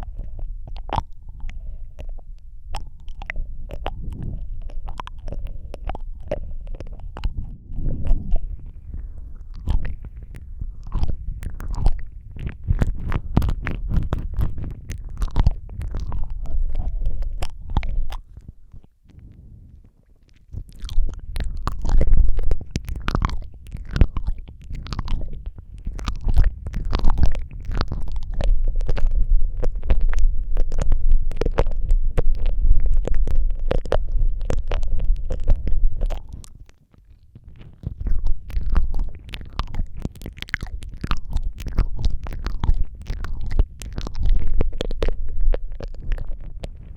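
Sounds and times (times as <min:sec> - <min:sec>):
wet mouth clicks and smacks: 0:00.0 - 0:19.4, 0:20.0 - 0:46.9
heavy low rumble: 0:00.0 - 0:36.6, 0:37.3 - 0:46.9.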